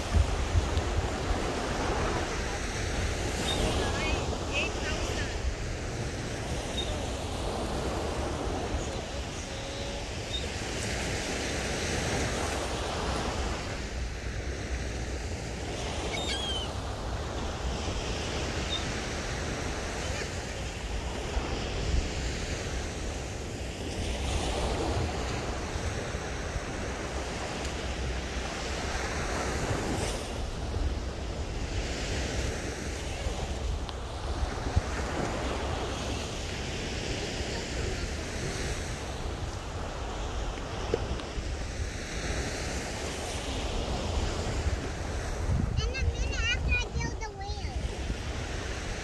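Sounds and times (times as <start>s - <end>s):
surf breaking on a beach: 0.0s - 49.0s
wind on microphone: 0.0s - 49.0s.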